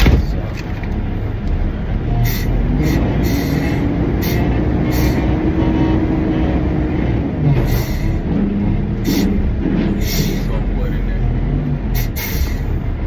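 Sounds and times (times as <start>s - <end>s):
garbage truck diesel engine: 0.0s - 13.0s.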